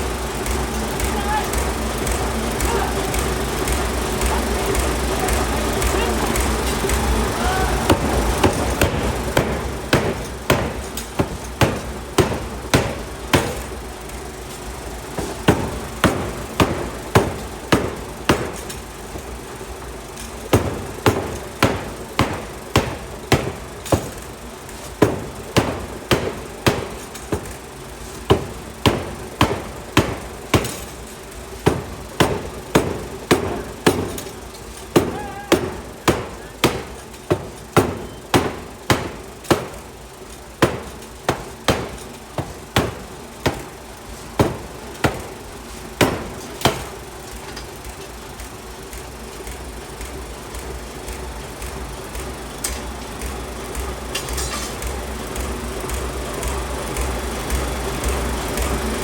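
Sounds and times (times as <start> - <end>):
machine hum: 0.0 - 59.0
forging hammer striking hot steel: 0.4 - 48.2.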